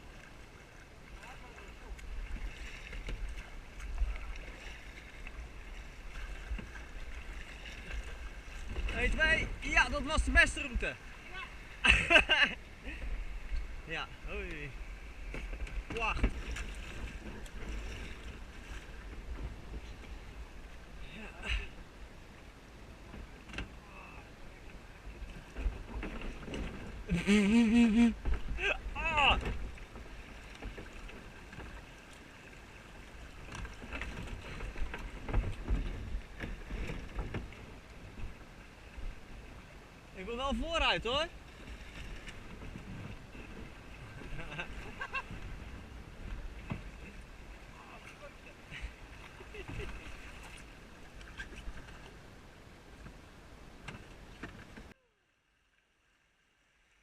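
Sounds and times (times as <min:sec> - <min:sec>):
paddles splashing in water: 0:00.0 - 0:21.1, 0:21.7 - 0:55.0.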